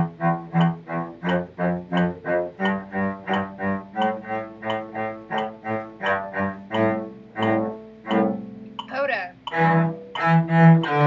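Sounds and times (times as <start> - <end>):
bowed cello notes: 0.0 - 11.0.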